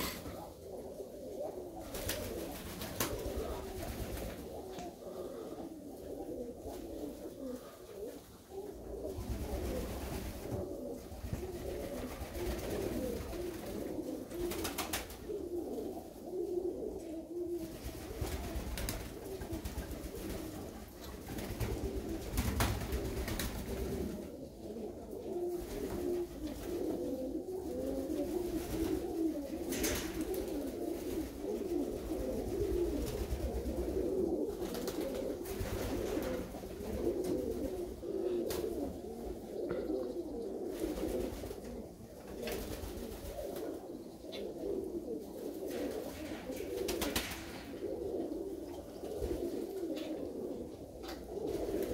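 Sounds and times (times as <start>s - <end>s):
pigeons cooing: 0.0s - 51.9s.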